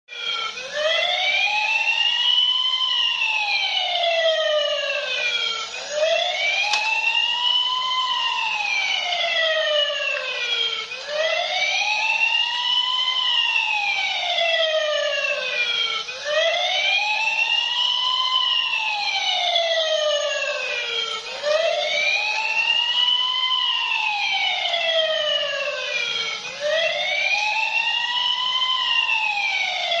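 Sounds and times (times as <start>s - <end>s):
toy siren wailing: 0.1s - 30.0s.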